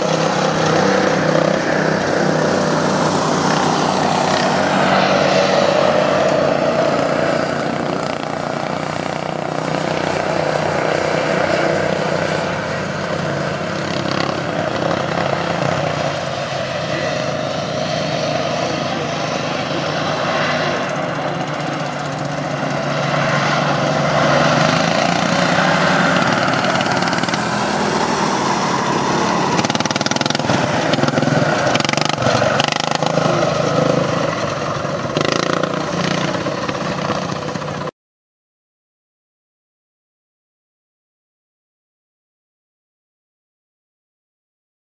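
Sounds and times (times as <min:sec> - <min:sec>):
small engines racing: 0:00.0 - 0:37.9.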